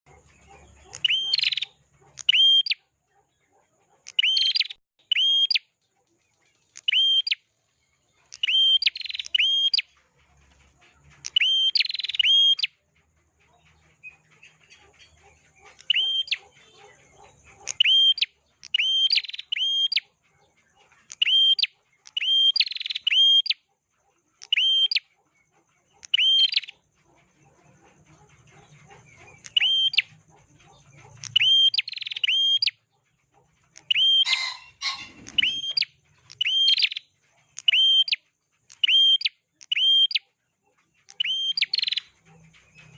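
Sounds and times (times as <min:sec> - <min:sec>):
bird chirping: 0:00.1 - 0:42.9.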